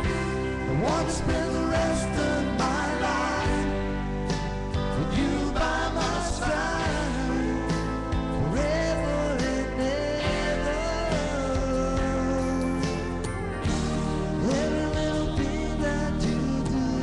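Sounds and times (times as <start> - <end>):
man singing country ballad: 0.0 - 4.1, 4.9 - 13.3, 14.4 - 17.0
karaoke backing track: 0.0 - 17.0.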